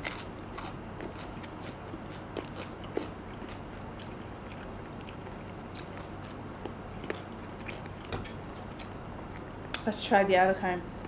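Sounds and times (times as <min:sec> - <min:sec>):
people chewing: 0:00.0 - 0:09.5.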